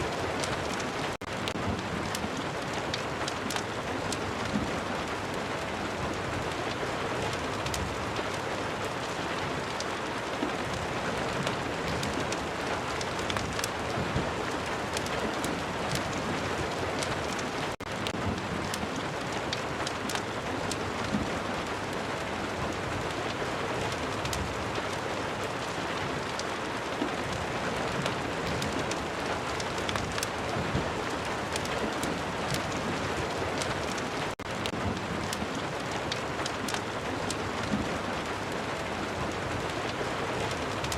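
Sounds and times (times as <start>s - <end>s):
fireplace crackling: 0.0s - 40.9s.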